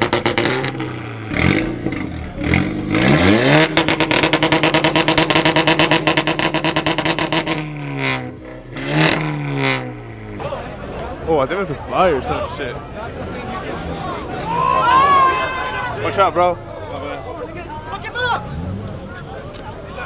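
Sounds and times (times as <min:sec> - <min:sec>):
car engine revving: 0:00.0 - 0:14.5, 0:18.0 - 0:20.0.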